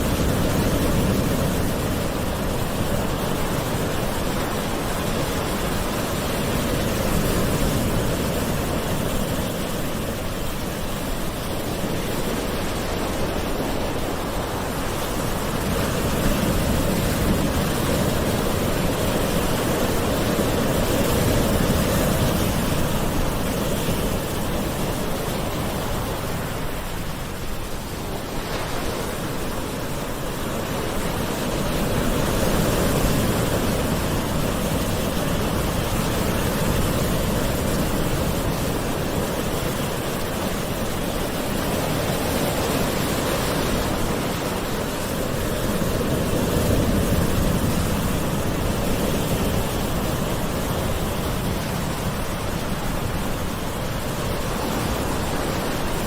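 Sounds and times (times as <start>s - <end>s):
ocean waves washing on shore: 0.0s - 56.0s.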